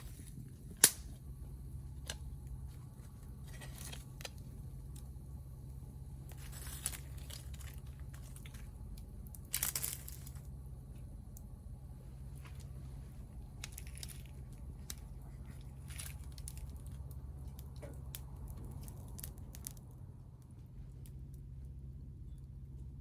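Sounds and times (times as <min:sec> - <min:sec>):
low rumble of burning: 0:00.0 - 0:23.0
wood fire crackling: 0:00.0 - 0:23.0.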